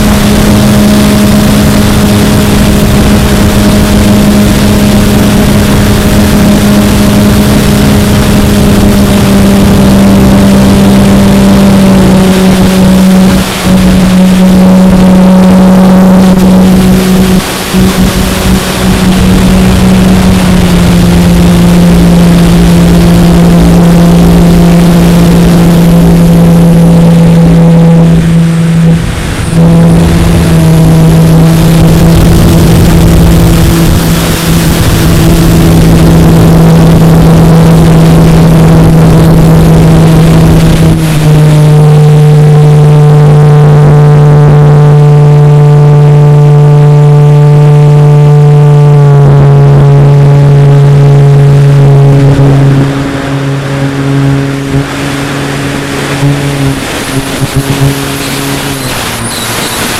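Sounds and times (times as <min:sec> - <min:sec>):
heavy wind rush: 0:00.0 - 0:47.9, 0:49.7 - 0:59.9.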